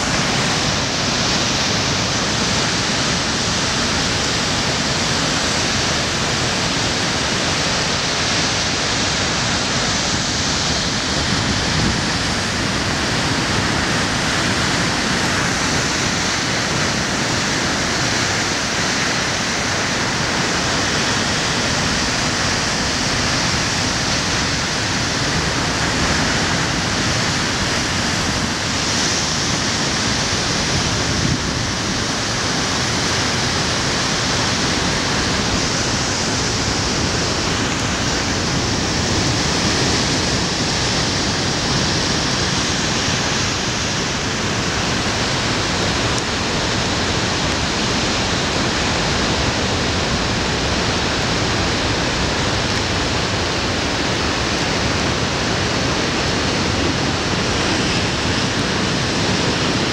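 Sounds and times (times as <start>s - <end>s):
storm surf roaring over rocks: 0.0s - 59.9s.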